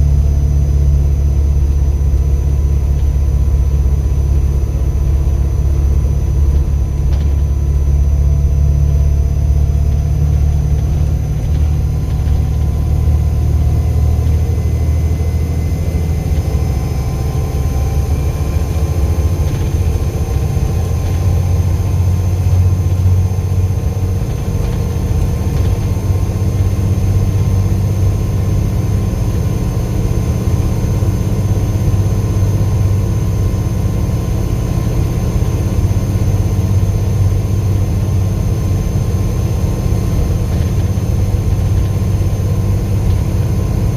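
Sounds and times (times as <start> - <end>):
diesel bus engine rumbling: 0.0 - 43.9.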